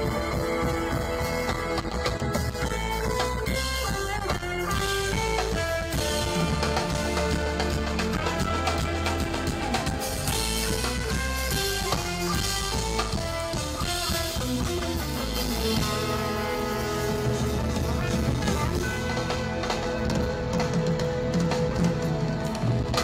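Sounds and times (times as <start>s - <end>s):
instrumental band music: 0.0s - 23.0s.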